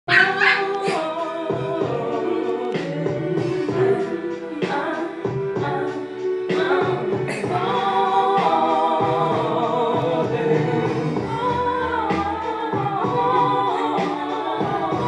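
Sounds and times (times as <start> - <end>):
voices singing held notes: 0.1 - 15.0.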